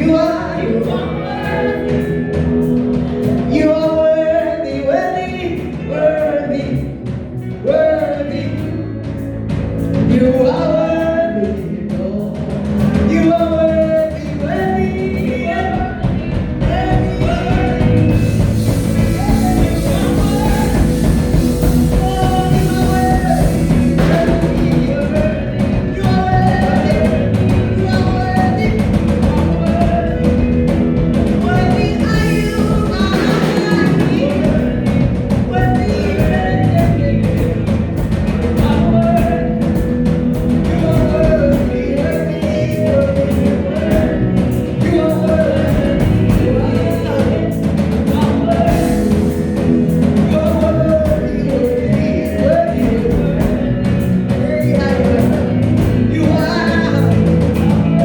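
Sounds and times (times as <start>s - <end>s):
gospel band and singers: 0.0s - 58.0s
steady drum beat: 11.5s - 58.0s.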